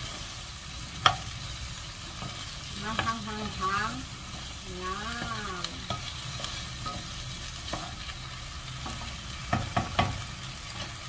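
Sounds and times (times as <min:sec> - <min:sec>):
okra sizzling in a pan: 0:00.0 - 0:11.0
wooden spatula scraping a pan: 0:00.0 - 0:11.0.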